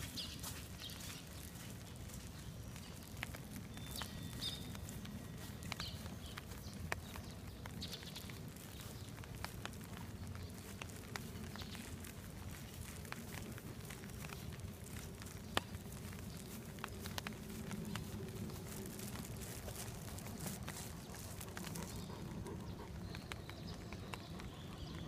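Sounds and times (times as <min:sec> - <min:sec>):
footsteps on grass: 0:00.0 - 0:22.4
wind rumble on microphone: 0:00.9 - 0:25.0.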